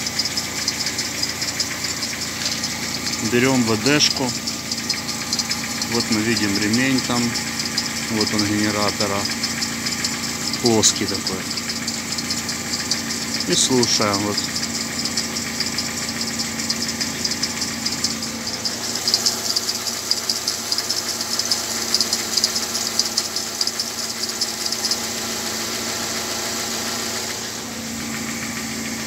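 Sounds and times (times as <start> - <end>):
belt squealing chirp: 0.0 - 25.2
car engine idling: 0.0 - 29.0.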